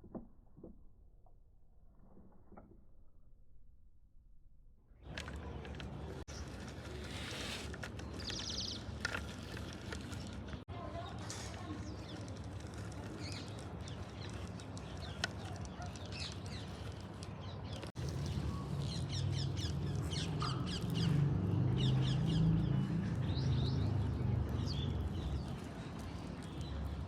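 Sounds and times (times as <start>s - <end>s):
small birds chirping: 5.0s - 27.0s.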